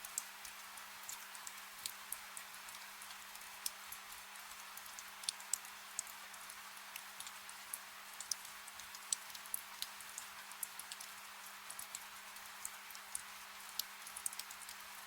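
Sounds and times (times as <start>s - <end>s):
close drips ticking: 0.0s - 15.0s.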